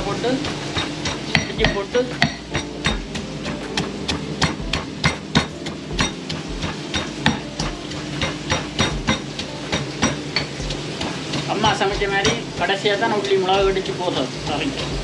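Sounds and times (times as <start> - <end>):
pestle pounding in mortar: 0.0 - 15.0.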